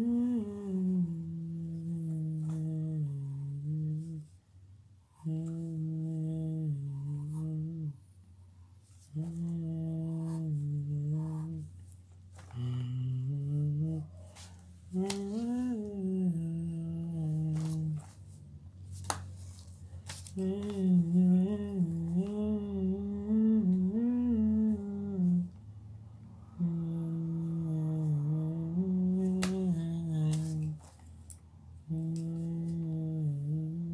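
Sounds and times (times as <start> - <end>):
person humming a tune: 0.0 - 4.4, 5.1 - 8.2, 9.1 - 11.8, 12.4 - 18.2, 20.3 - 25.6, 26.4 - 30.9, 31.8 - 33.9.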